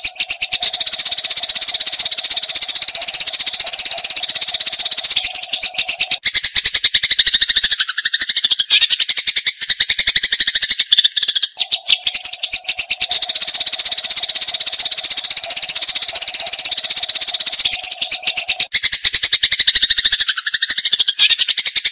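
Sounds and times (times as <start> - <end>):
sparrows chattering harshly: 0.0 - 21.9.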